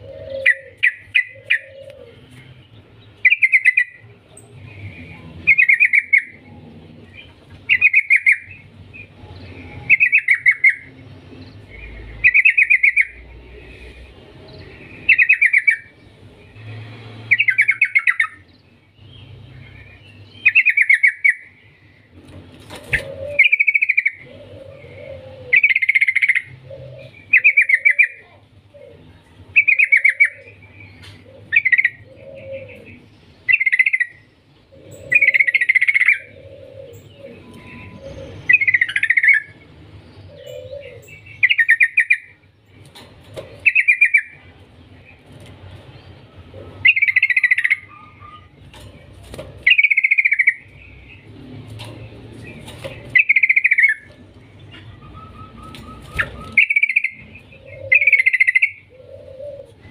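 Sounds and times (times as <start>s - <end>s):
bird singing warbled phrases: 0.0s - 59.9s.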